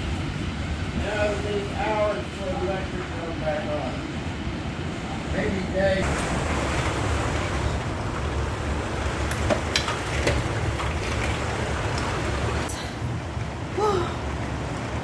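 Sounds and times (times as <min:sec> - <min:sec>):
heavy rain: 0:00.0 - 0:15.0
strong wind: 0:00.0 - 0:15.0.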